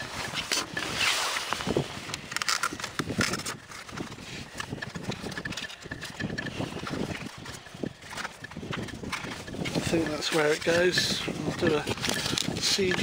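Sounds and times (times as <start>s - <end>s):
handling rustling: 0.0s - 13.0s.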